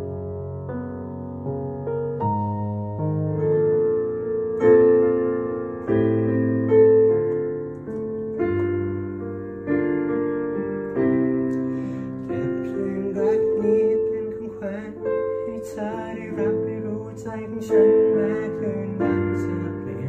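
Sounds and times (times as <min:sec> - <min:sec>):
digital piano chords: 0:00.0 - 0:20.0.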